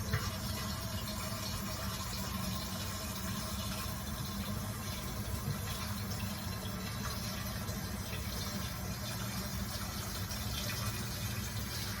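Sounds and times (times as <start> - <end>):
toilet water running: 0.0 - 12.0.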